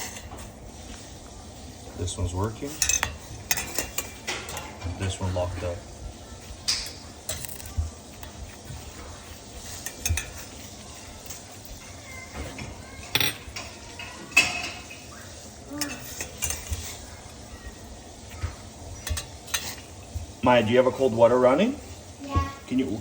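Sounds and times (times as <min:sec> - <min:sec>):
metal clinking against a pot: 0:00.0 - 0:00.5, 0:02.1 - 0:21.1.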